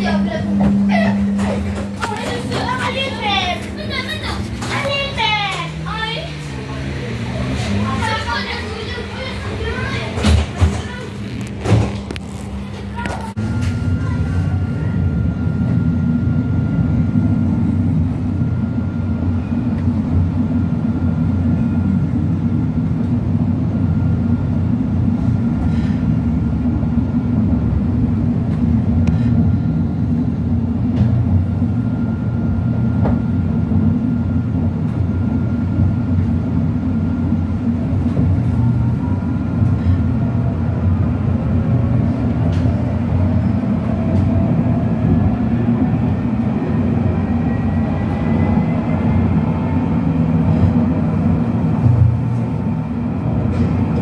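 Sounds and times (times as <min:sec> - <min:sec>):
tram motor whine: 0:00.0 - 0:54.0
tram rumbling on rails: 0:00.0 - 0:54.0.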